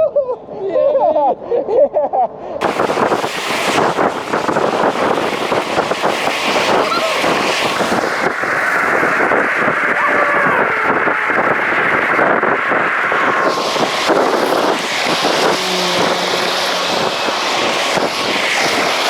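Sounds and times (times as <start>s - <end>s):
wind buffeting microphone: 2.6s - 19.0s.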